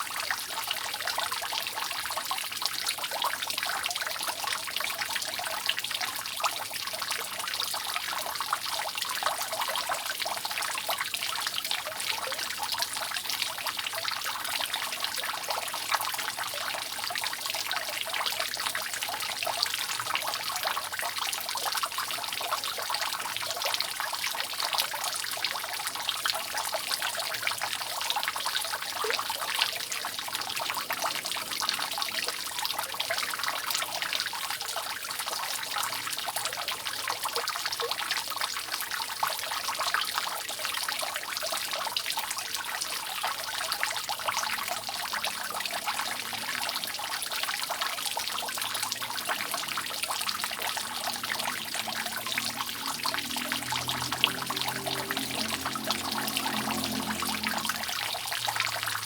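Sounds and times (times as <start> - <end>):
rainwater dripping off a roof: 0.0 - 59.0.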